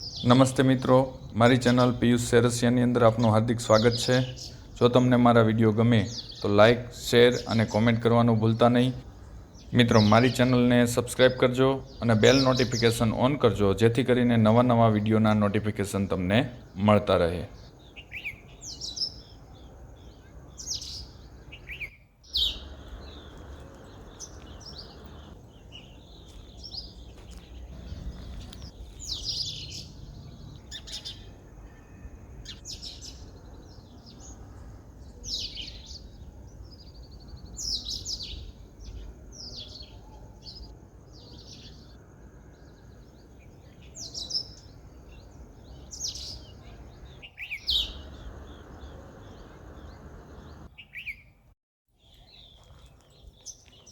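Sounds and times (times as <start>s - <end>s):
sparrows chirping: 0.0s - 53.9s.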